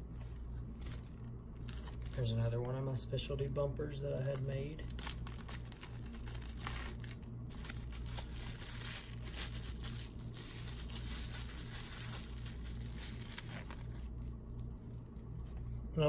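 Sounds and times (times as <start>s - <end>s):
low hum: 0.0s - 16.0s
packaging crinkling and rustling: 0.1s - 2.8s, 4.2s - 15.3s.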